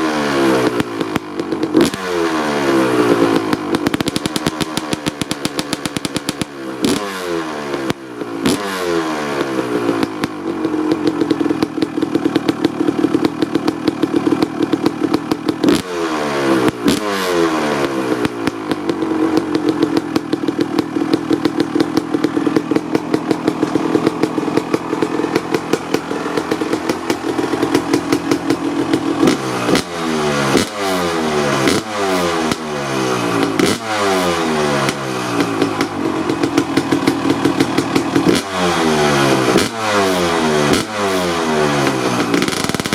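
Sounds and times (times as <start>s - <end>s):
two-stroke engine idling and revving: 0.0s - 42.9s.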